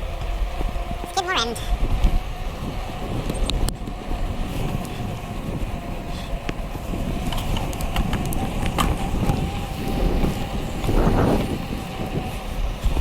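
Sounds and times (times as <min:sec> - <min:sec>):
bicycle rumbling on road: 0:00.0 - 0:13.0
wind on microphone: 0:00.0 - 0:13.0
bicycle clicks and rattles: 0:01.6 - 0:13.0.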